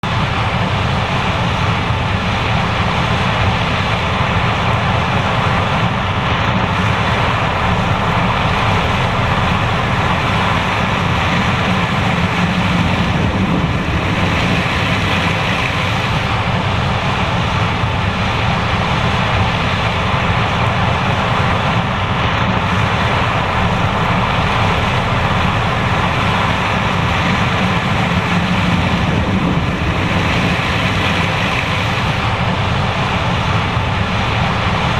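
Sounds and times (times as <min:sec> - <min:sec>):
combine harvester running: 0:00.0 - 0:34.9.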